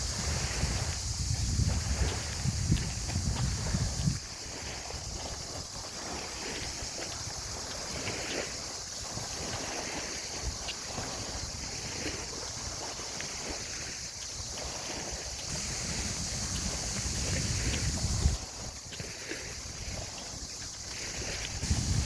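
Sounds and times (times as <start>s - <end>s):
high-pitched hiss: 0.0s - 22.0s
wind on microphone: 0.0s - 22.0s.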